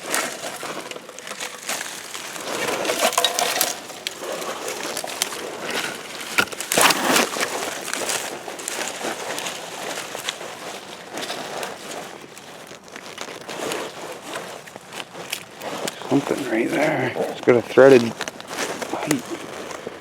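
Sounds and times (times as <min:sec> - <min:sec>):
scraping and rustling through junk: 0:00.0 - 0:20.0.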